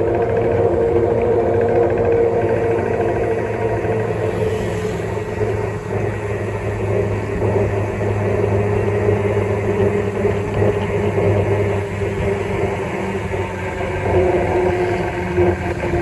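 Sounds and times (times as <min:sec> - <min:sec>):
motorbike engine hum: 0:00.0 - 0:16.0
road noise: 0:00.0 - 0:16.0
steady higher drone: 0:00.0 - 0:16.0.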